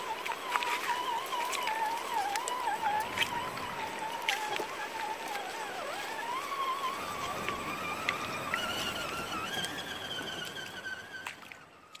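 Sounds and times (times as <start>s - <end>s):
electric motor and gears whining: 0.0s - 12.0s
tyres splashing through water: 0.0s - 12.0s.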